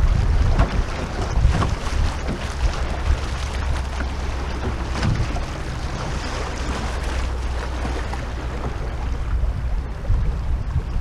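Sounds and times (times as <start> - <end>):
river current rushing: 0.0 - 9.9
wind rumble on microphone: 0.0 - 11.0.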